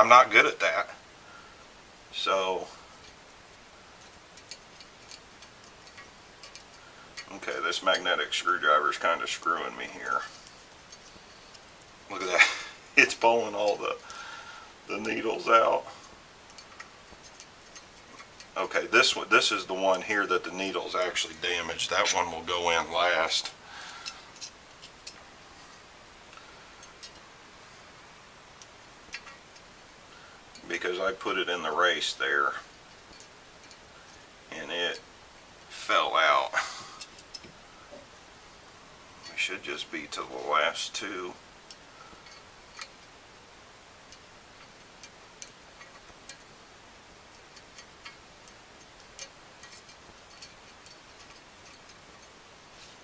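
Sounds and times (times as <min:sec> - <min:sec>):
low steady hiss: 0:00.0 - 0:53.0
metal needles clicking: 0:01.5 - 0:38.4, 0:39.0 - 0:53.0
faint sharp metallic ticks: 0:02.4 - 0:12.3, 0:13.0 - 0:27.3, 0:28.5 - 0:38.0, 0:39.2 - 0:43.2, 0:44.0 - 0:52.9.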